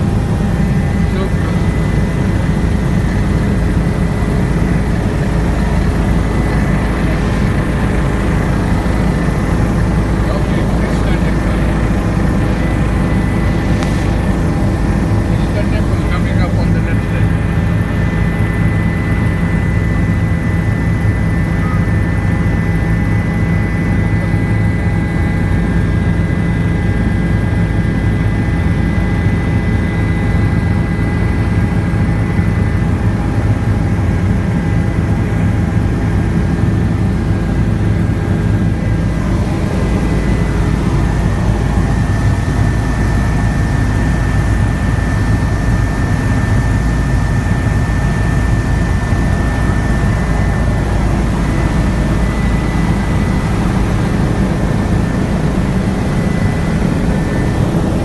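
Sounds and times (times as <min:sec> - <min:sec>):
helicopter engine drone: 0:00.0 - 0:58.0
high turbine whine: 0:00.0 - 0:58.0.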